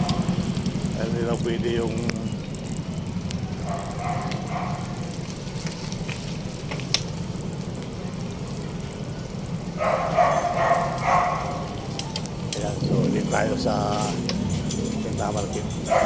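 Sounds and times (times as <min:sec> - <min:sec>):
crackling noise: 0:00.0 - 0:16.0
ferry engine drone: 0:00.0 - 0:16.0.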